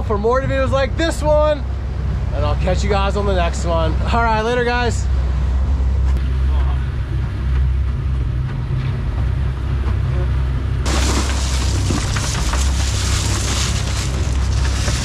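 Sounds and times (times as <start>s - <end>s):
boat engine rumble: 0.0s - 15.0s.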